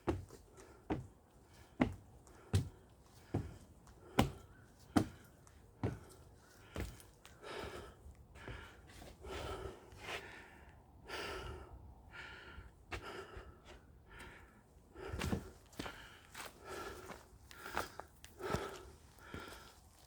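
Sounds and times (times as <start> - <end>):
person breathing hard: 0.5 - 19.9.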